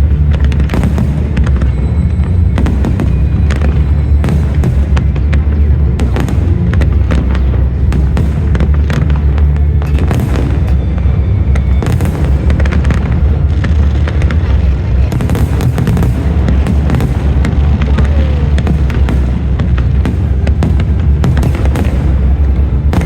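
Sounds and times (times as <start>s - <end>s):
fireworks bangs and crackles: 0.0s - 23.0s
low rumble: 0.0s - 23.0s
show music: 0.0s - 23.0s.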